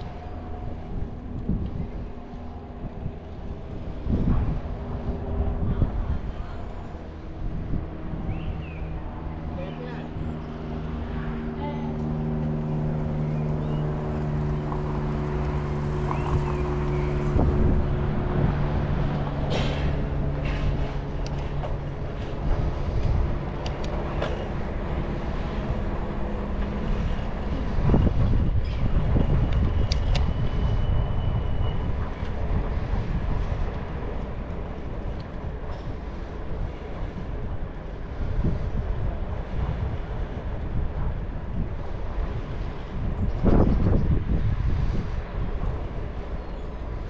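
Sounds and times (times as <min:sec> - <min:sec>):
bicycle riding rumble: 0:00.0 - 0:47.0.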